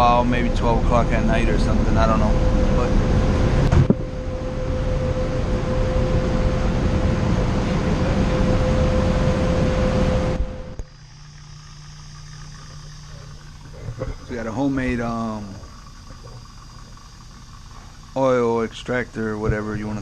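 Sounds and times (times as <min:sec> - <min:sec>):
low hum: 0:00.0 - 0:20.0
machinery noise: 0:00.0 - 0:20.0
steady mid-pitched tone: 0:00.0 - 0:20.0.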